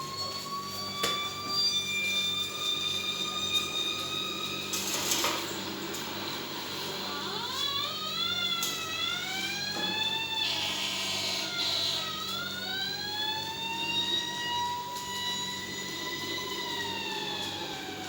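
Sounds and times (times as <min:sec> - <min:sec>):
fire truck siren wailing: 0:00.0 - 0:18.0.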